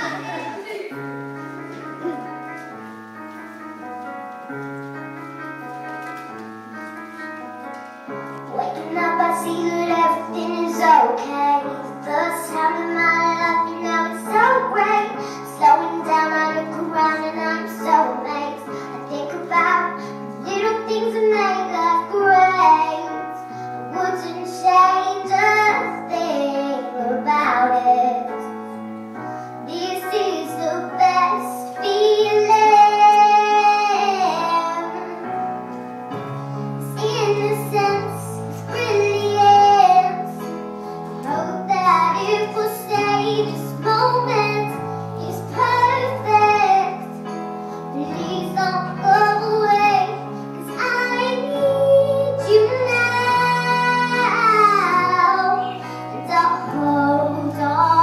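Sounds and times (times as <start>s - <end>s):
piano accompaniment: 0.0s - 58.0s
girl singing into microphone: 8.4s - 28.6s, 29.4s - 35.9s, 36.6s - 58.0s.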